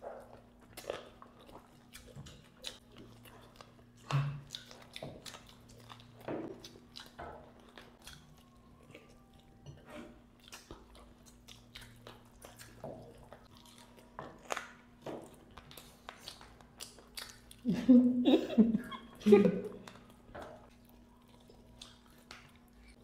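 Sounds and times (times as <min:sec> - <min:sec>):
chewing and biting chicken: 0:00.0 - 0:17.7, 0:19.8 - 0:23.0
teeth and mouth clicks: 0:00.7 - 0:09.5, 0:10.4 - 0:17.7, 0:19.8 - 0:23.0.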